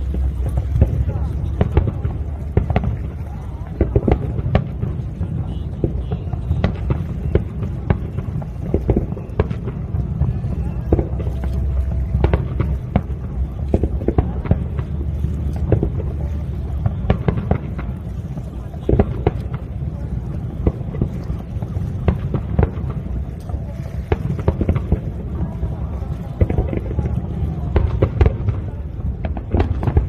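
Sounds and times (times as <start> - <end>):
crowd voices: 0.0 - 30.0
fireworks bangs: 0.0 - 30.0
low rumble: 0.0 - 30.0.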